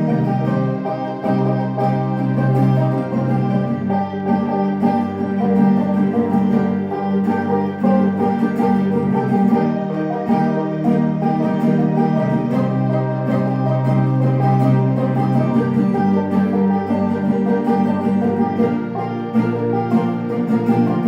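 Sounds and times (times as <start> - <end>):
banjo playing: 0.0 - 21.0
mandolin playing: 0.0 - 21.0.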